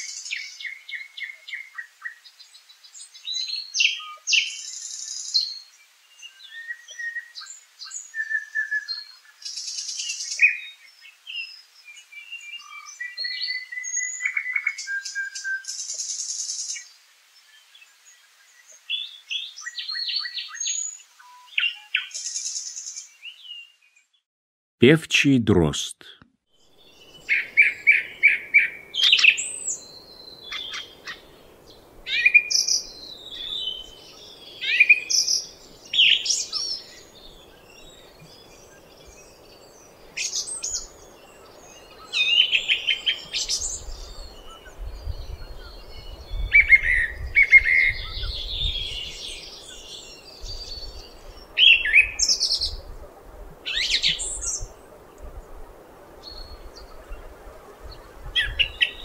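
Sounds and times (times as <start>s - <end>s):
song thrush singing: 0.0s - 24.2s, 26.5s - 59.0s.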